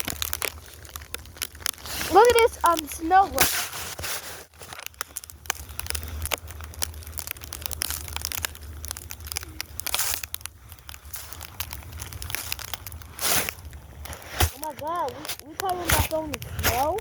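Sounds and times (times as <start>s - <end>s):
snow crunching and crackling: 0.0s - 17.0s.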